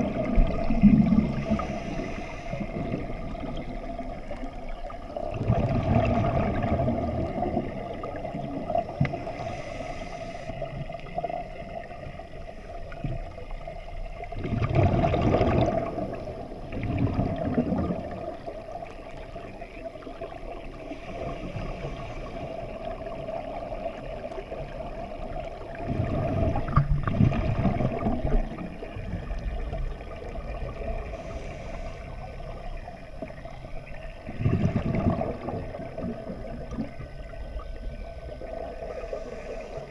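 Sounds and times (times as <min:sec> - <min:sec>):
scuba regulator bubbles: 0:00.0 - 0:39.9
steady underwater hum: 0:00.0 - 0:39.9.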